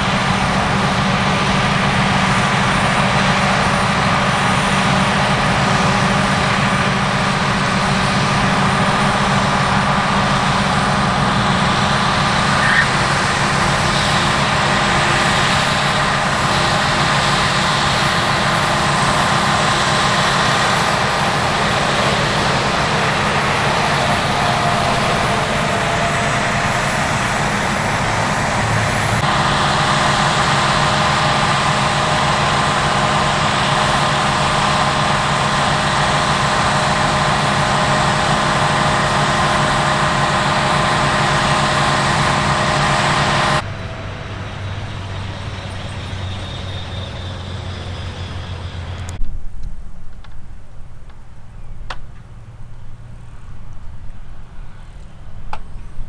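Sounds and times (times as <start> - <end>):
heavy diesel machinery running: 0.0 - 49.2.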